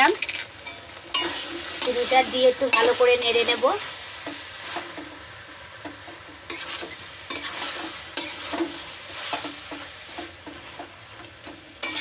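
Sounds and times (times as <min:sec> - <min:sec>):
food sizzling: 0:00.0 - 0:12.0
spatula stirring in frying pan: 0:00.6 - 0:12.0.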